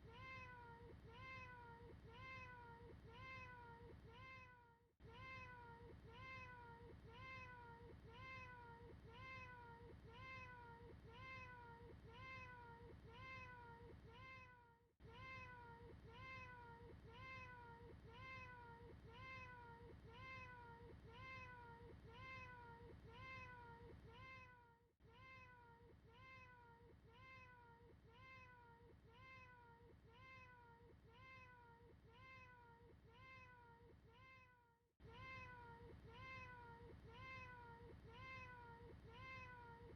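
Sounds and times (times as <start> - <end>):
faint cat meow: 0.0 - 39.9.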